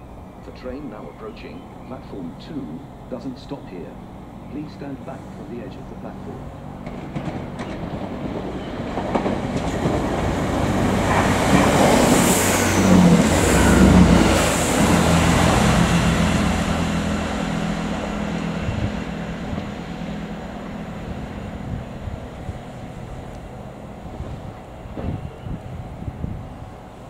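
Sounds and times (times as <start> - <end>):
diesel train engine drone: 0.0 - 27.0
train wheels rumbling on rails: 0.0 - 27.0.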